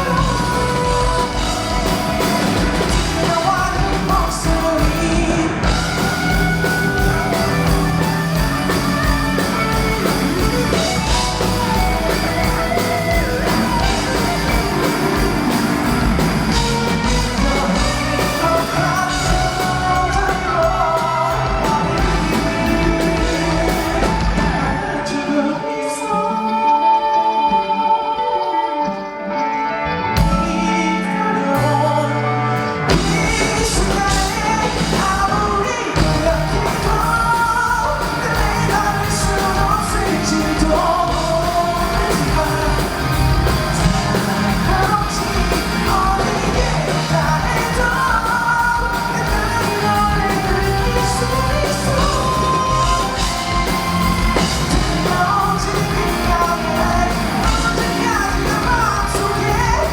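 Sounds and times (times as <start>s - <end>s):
drums: 0.0s - 28.3s, 29.6s - 59.9s
lead vocal singing: 0.0s - 59.9s
live pop-rock band: 0.0s - 59.9s.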